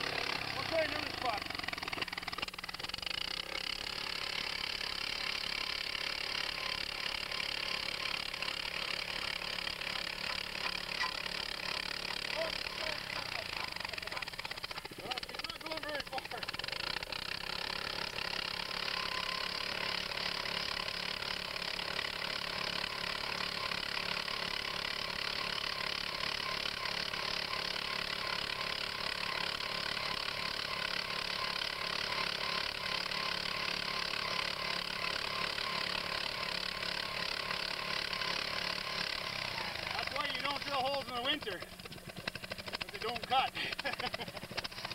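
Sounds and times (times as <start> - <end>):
earth auger engine running: 0.0 - 44.9.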